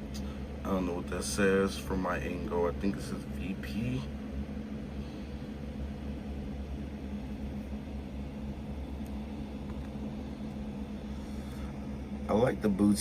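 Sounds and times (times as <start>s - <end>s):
low background hum with hiss: 0.0s - 13.0s.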